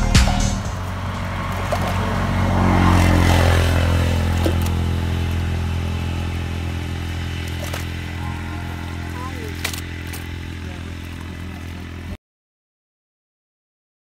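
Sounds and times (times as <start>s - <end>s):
engine running steadily: 0.0s - 12.2s.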